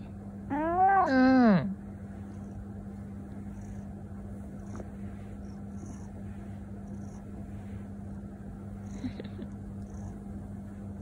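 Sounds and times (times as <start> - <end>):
steady low hum: 0.0 - 11.0
cat purring: 0.5 - 11.0.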